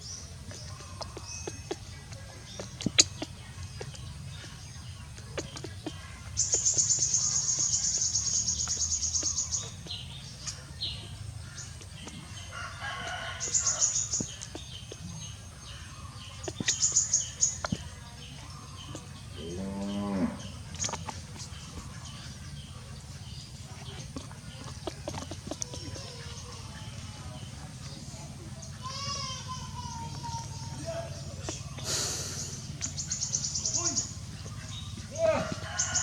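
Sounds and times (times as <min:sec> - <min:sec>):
animal chirps and clicks: 0:00.4 - 0:19.3, 0:20.7 - 0:28.0, 0:29.7 - 0:36.0.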